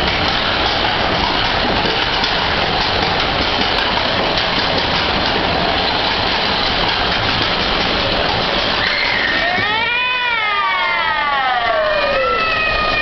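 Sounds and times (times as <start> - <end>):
roller coaster car rumbling on track: 0.0 - 13.0.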